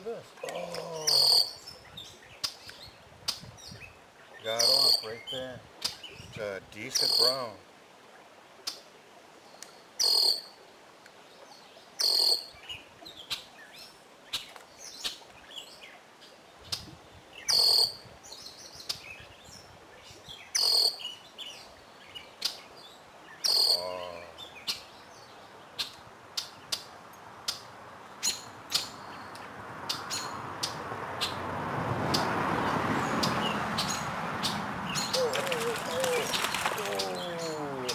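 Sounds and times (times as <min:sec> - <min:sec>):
songbirds calling and singing: 0:00.0 - 0:37.9.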